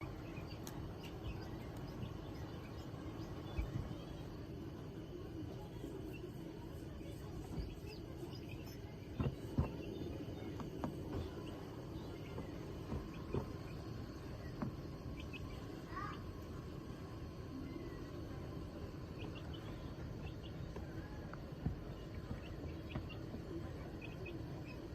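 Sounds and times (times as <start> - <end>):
low background hum: 0.0 - 24.9.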